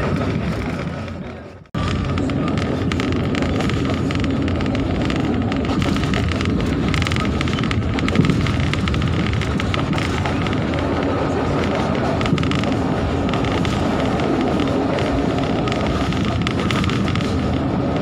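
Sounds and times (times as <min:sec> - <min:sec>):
train running noise inside coach: 0:00.0 - 0:18.0.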